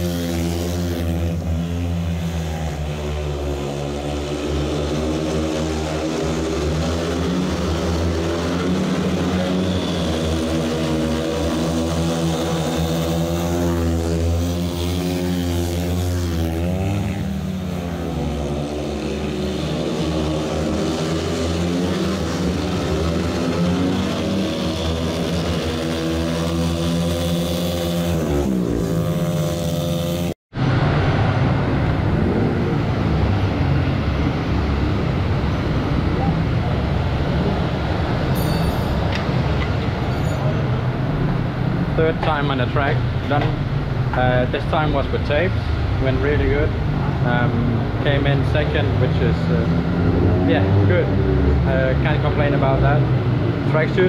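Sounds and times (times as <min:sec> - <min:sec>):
motorcycle engines racing: 0:00.0 - 0:54.0.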